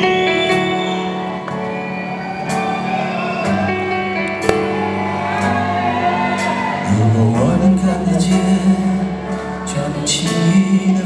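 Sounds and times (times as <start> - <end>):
live band playing slow instrumental: 0.0 - 10.9.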